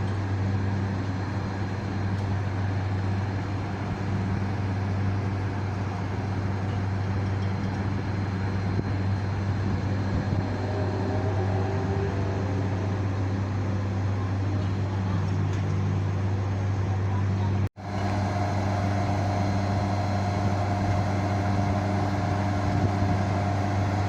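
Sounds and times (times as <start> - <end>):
electrical machinery hum: 0.0 - 24.0.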